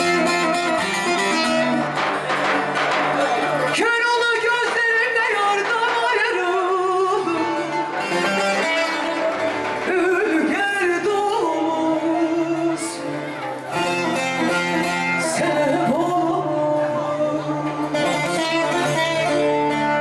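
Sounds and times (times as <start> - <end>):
amplified saz: 0.0 - 20.0
sustained string accompaniment: 0.0 - 20.0
woman singing into microphone: 3.7 - 20.0.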